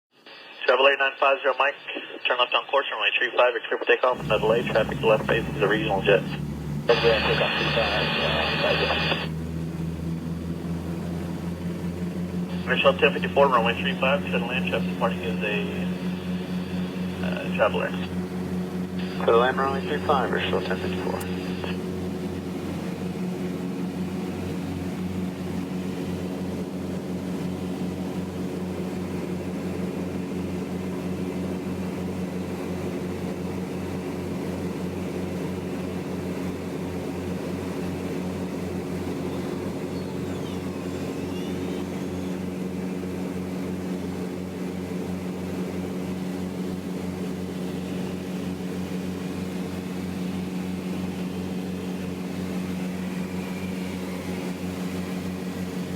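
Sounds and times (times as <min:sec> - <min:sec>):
propeller plane engines droning: 0:00.3 - 0:03.5, 0:04.1 - 0:55.9.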